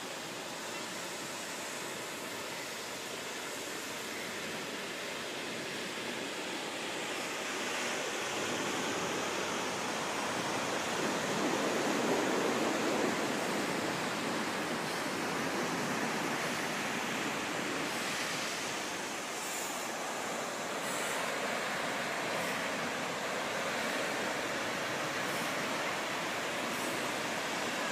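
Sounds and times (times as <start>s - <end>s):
ocean surf rushing: 0.0s - 27.9s.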